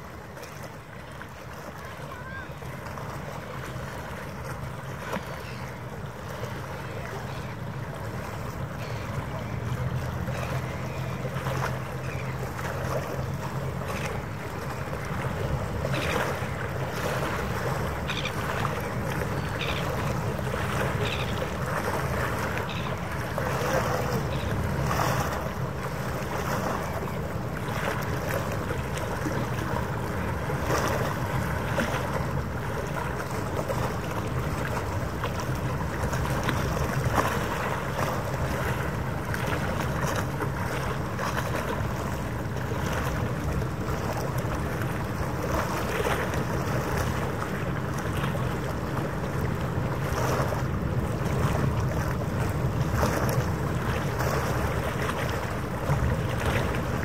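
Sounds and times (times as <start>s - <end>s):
low boat engine hum: 0.0s - 57.0s
water lapping: 0.0s - 57.0s.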